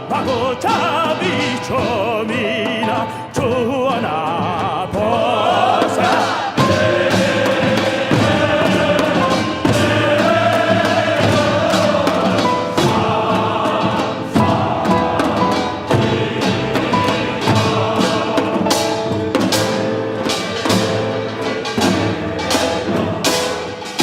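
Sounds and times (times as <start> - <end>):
choir singing with orchestra: 0.0 - 24.0
drum strikes: 0.0 - 24.0.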